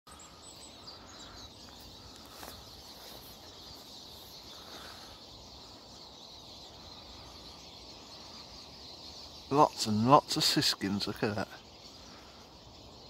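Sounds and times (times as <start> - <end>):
birds twittering: 0.1 - 13.0.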